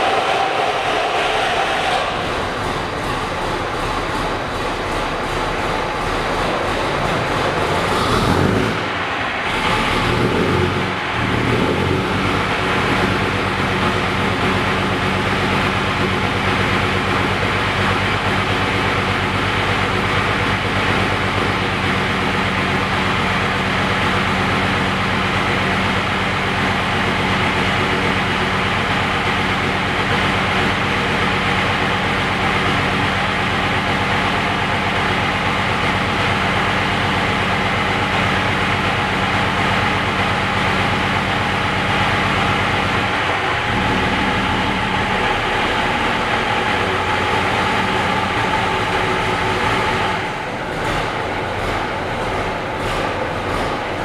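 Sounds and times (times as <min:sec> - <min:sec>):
diesel bus engine idling: 0:00.0 - 0:54.0.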